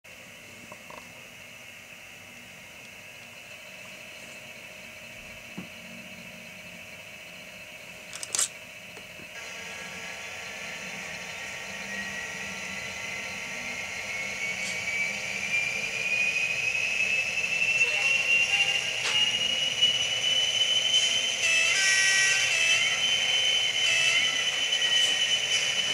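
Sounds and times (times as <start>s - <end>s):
model locomotive engine sound: 0.1s - 25.9s.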